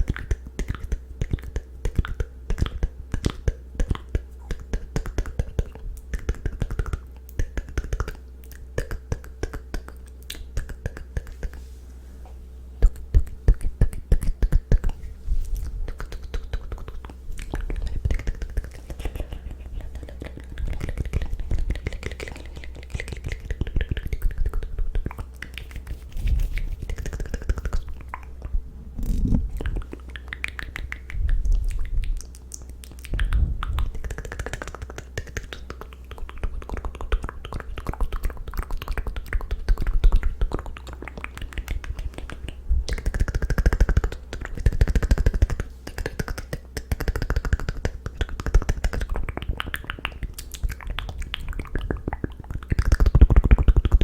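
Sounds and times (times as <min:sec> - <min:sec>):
wet tongue and lip clicks: 0:00.0 - 0:11.6, 0:12.8 - 0:54.0.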